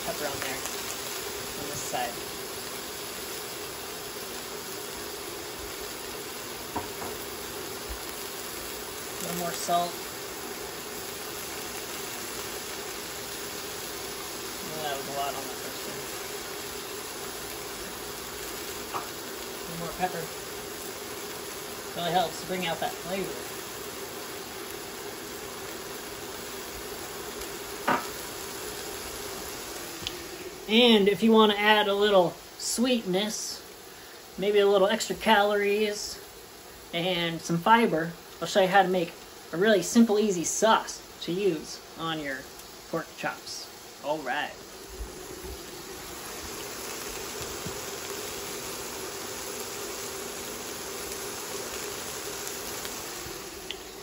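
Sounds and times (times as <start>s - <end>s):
faint steady hum: 0.0s - 54.0s
meat sizzling in a skillet: 0.0s - 54.0s.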